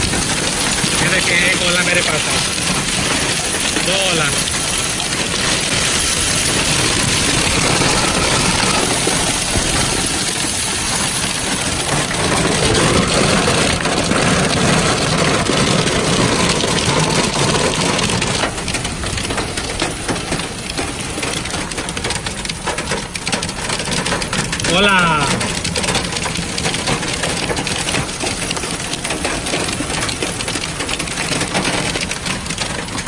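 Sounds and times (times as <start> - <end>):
hail and rain on asphalt: 0.0 - 33.0
hailstones ticking on a car: 0.0 - 33.0.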